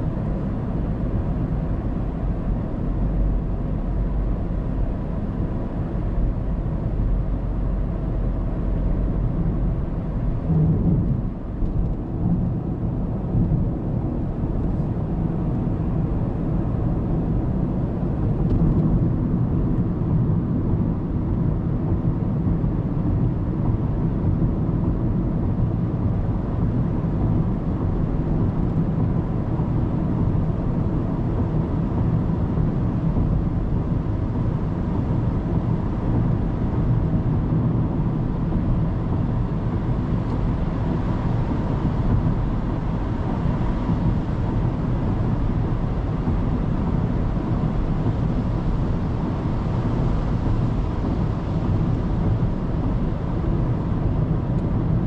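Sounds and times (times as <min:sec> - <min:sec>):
tyres and engine rumble: 0:00.0 - 0:55.0.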